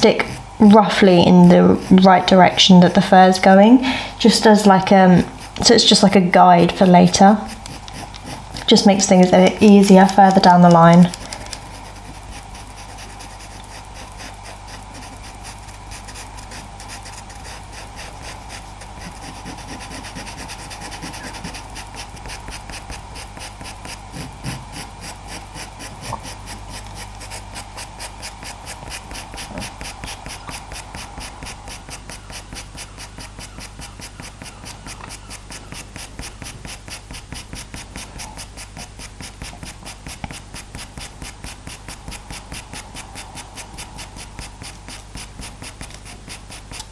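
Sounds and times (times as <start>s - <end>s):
pastel pencil scratching paper: 0.0s - 3.6s, 4.3s - 46.9s.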